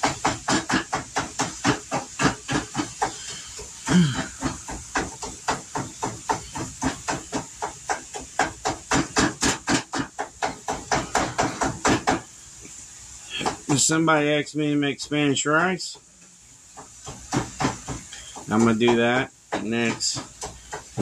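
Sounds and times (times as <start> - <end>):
spatula chopping meat: 0.0 - 12.3, 13.3 - 13.8, 16.7 - 21.0
meat sizzling in a pan: 0.0 - 21.0.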